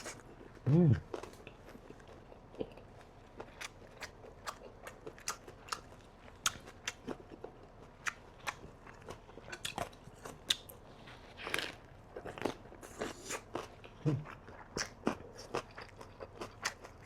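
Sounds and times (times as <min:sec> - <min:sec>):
crisp chewing crunches: 0:00.0 - 0:17.0.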